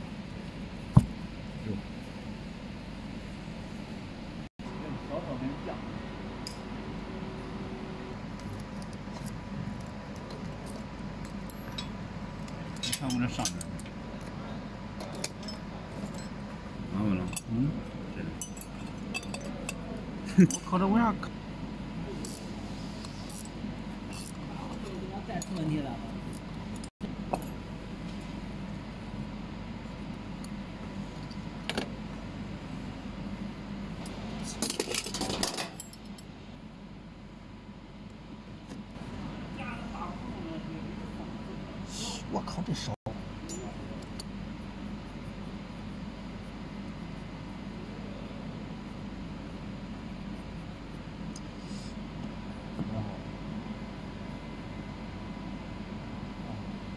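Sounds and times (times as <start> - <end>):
steady background hum: 0.0 - 56.9.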